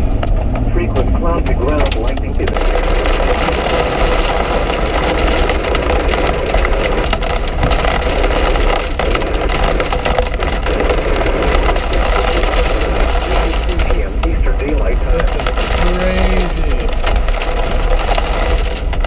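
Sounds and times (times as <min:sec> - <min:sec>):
hail rattling on vehicle: 0:00.0 - 0:19.0
road and engine rumble: 0:00.0 - 0:19.0.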